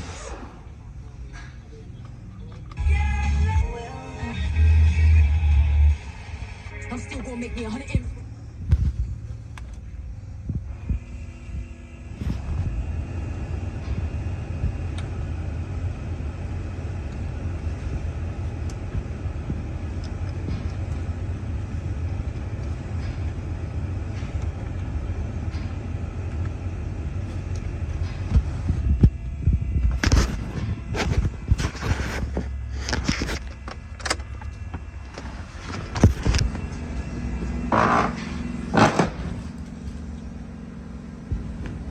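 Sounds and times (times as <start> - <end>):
blower fan running: 2.7 - 41.9.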